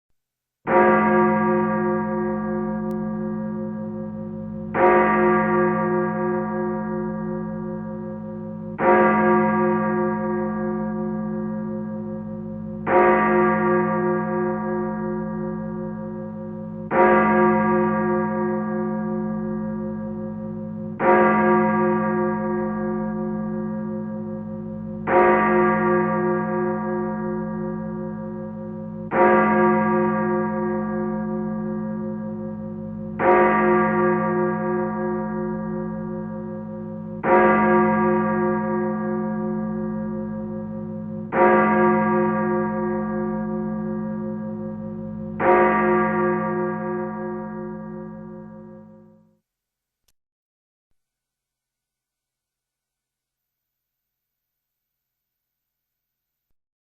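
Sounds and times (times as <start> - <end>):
church bell tolling: 0.7 - 49.3.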